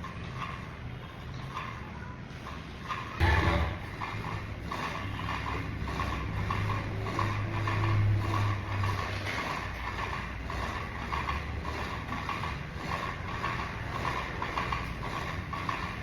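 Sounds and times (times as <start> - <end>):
rapid irregular mechanical clicking: 0.0 - 16.0
steady background noise: 0.0 - 16.0.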